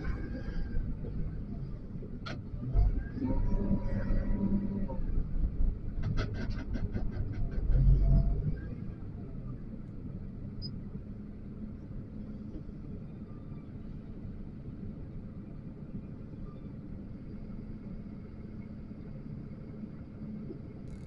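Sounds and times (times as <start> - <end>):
diesel engine rumbling under load: 0.0 - 20.8.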